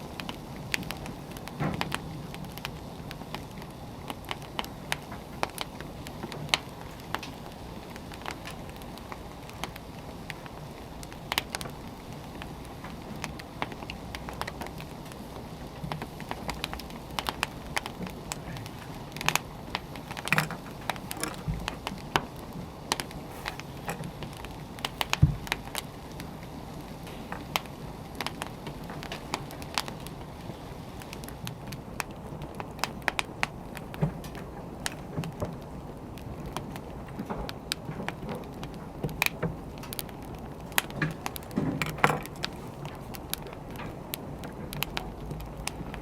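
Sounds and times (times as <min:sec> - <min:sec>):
low fire hiss: 0:00.0 - 0:46.0
wood fire crackling and popping: 0:00.0 - 0:46.0.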